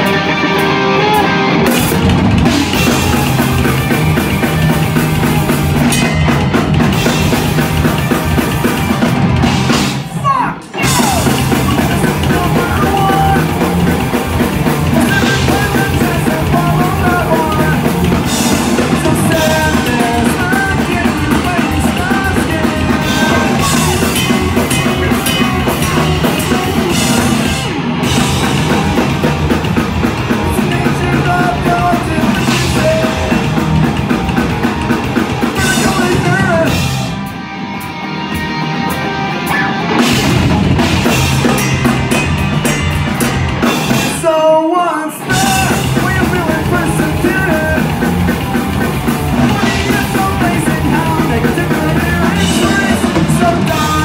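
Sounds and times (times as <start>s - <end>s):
bass guitar: 0.0s - 44.6s, 45.2s - 54.0s
distorted electric guitars: 0.0s - 54.0s
drum kit: 0.0s - 54.0s.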